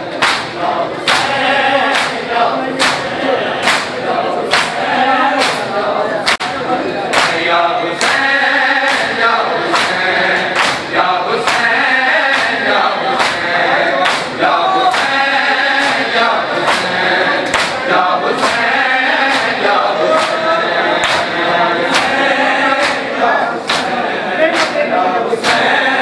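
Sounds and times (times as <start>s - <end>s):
men chanting in chorus: 0.0s - 26.0s
chest beating in unison: 0.1s - 26.0s.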